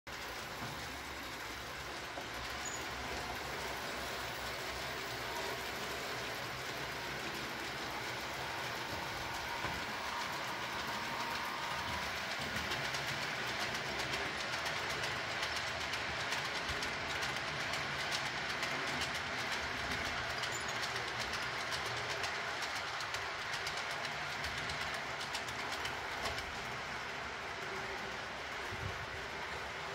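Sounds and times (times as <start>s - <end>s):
model train wheels clicking on track: 0.1s - 29.9s.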